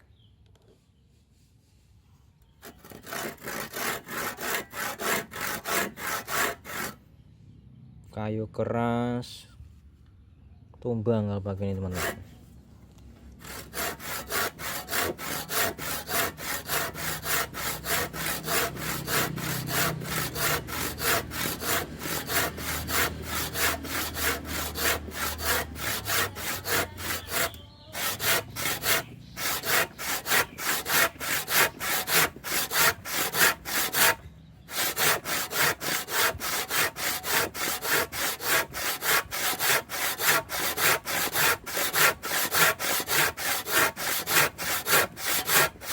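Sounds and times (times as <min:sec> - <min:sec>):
hand saw cutting wood: 0:02.6 - 0:07.0, 0:11.8 - 0:12.3, 0:13.4 - 0:45.9.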